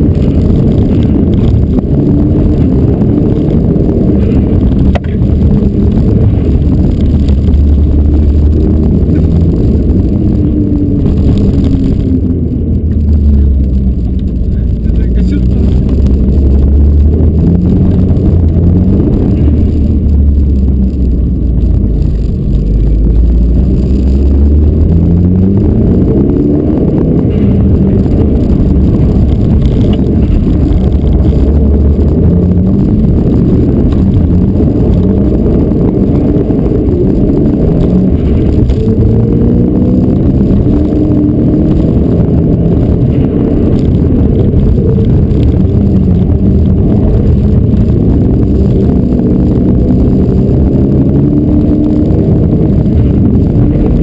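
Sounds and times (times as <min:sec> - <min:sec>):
rally car engine accelerating: 0:00.0 - 0:54.0
road and tyre noise: 0:00.0 - 0:54.0.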